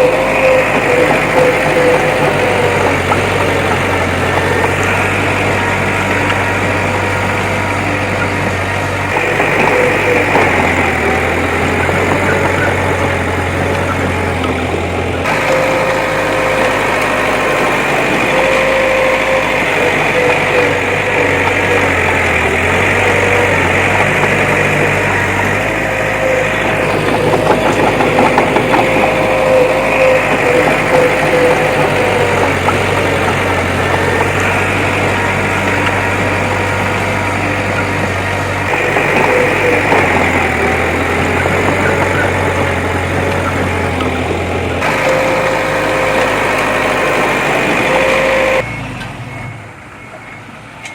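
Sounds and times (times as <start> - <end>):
diesel engine of heavy machinery: 0.0 - 50.9.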